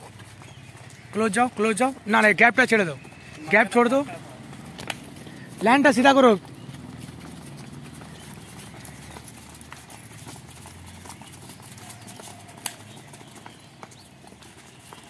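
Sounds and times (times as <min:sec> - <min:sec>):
sneaker footfalls on paving: 0:00.0 - 0:15.0.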